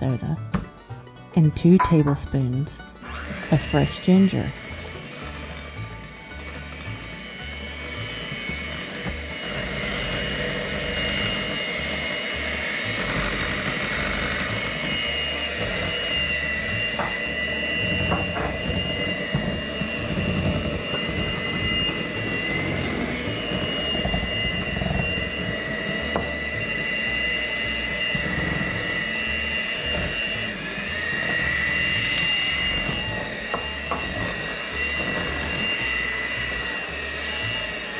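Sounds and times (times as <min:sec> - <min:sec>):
electric hand mixer whining: 0:00.0 - 0:37.9.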